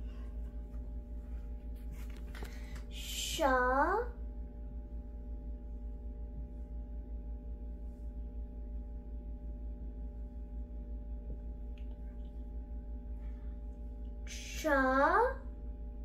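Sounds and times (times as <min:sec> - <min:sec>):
hum of held tones: 0:00.0 - 0:16.0.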